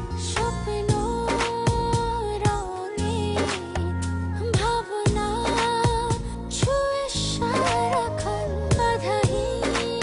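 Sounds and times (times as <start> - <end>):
pop duet song: 0.0 - 10.0.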